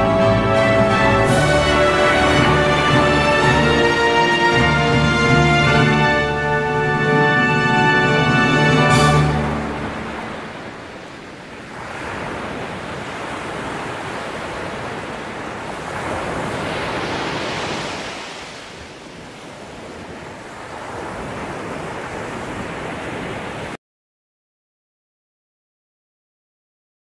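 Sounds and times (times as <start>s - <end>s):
sea waves on rocky shore: 0.2s - 23.8s.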